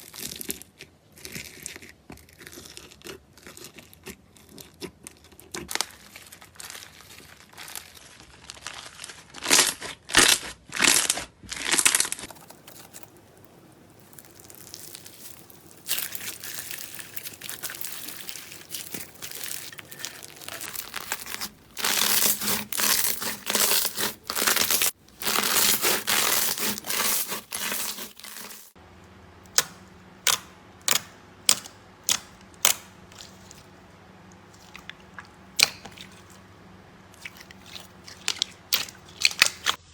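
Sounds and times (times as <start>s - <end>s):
slime crinkling and crackling: 0.0s - 28.8s, 30.2s - 33.7s, 37.2s - 39.9s.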